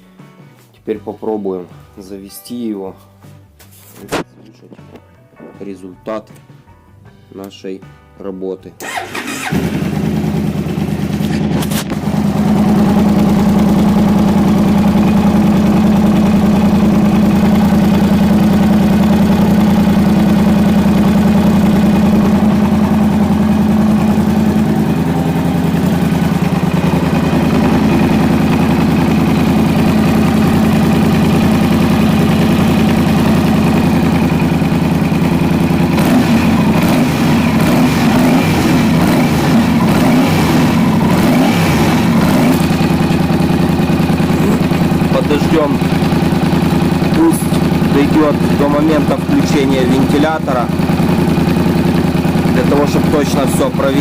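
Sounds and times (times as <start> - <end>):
motorcycle engine idling: 8.8 - 54.0.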